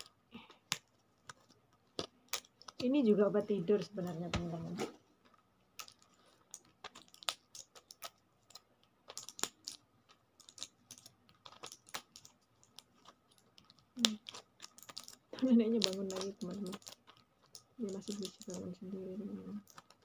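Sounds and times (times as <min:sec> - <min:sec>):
blister pack crinkling: 0:00.0 - 0:20.0.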